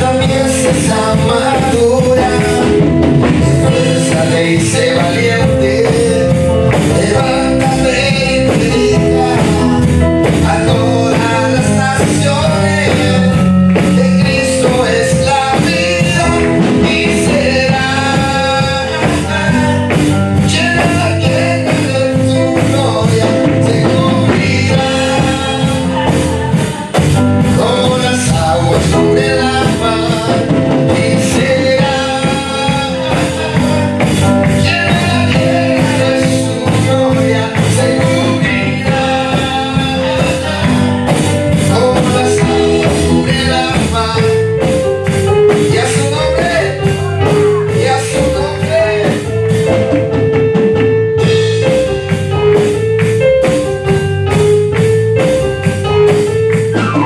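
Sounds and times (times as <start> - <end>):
worship singing: 0.0 - 50.1
instrumental band: 0.0 - 57.0
percussion beat: 0.0 - 57.0.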